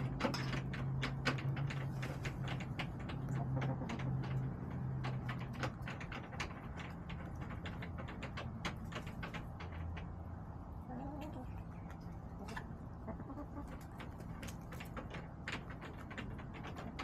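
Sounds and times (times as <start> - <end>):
hens clucking softly: 1.1 - 17.0.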